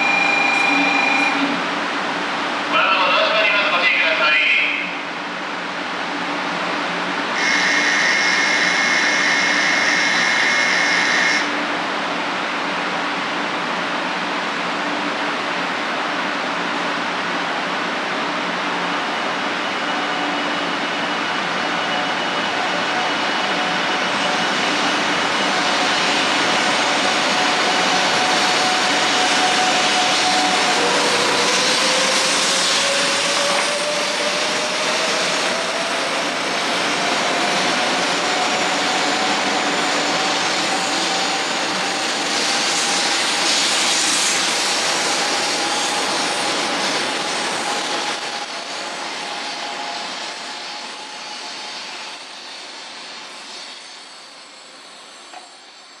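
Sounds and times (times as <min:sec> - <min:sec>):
train accelerating: 0:00.0 - 0:56.0.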